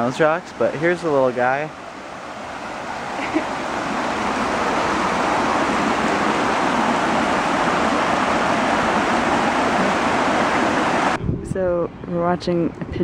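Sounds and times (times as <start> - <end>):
stream rushing over rocks: 0.0 - 11.2.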